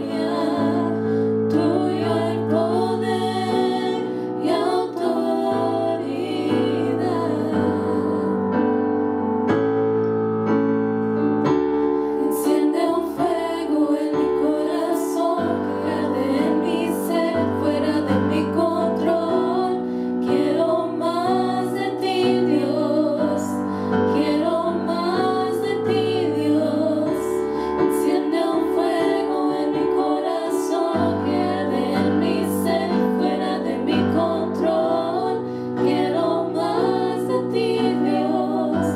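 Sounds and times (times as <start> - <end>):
women singing together: 0.0 - 8.6, 12.2 - 38.9
keyboard chords: 0.0 - 38.9.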